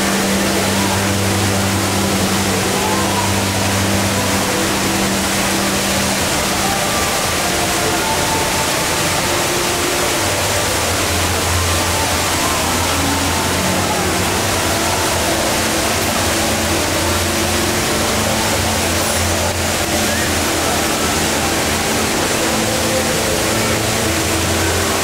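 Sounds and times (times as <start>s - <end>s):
indoor waterfall pouring: 0.0s - 25.0s.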